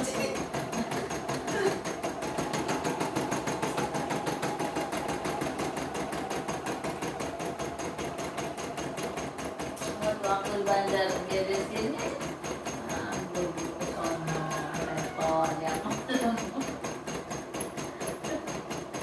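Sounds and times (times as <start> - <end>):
embroidery machine needle clatter: 0.0 - 19.0.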